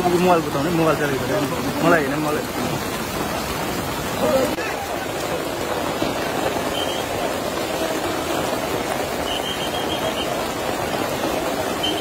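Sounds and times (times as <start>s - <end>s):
floodwater rushing: 0.0s - 12.0s
heavy rain pouring: 0.0s - 12.0s.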